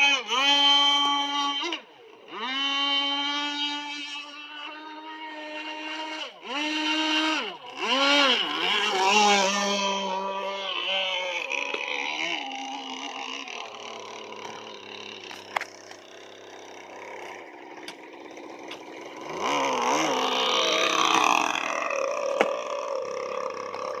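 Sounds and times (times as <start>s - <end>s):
model boat motor running: 0.0s - 24.0s.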